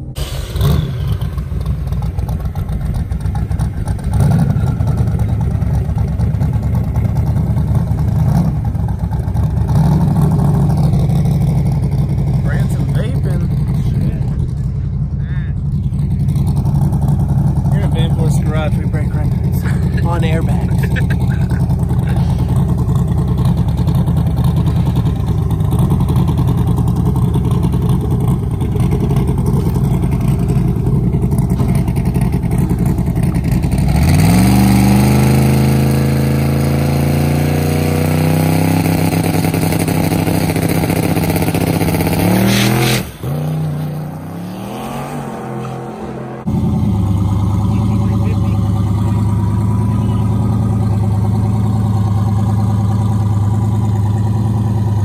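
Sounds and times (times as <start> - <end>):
car engine idling: 0.0 - 55.0
engine revving: 0.0 - 55.0.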